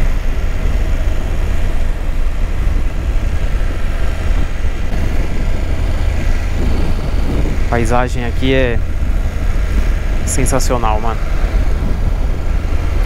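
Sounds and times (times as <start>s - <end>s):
motorcycle running: 0.0s - 13.0s
road noise: 0.0s - 13.0s
wind rumble on microphone: 0.0s - 13.0s.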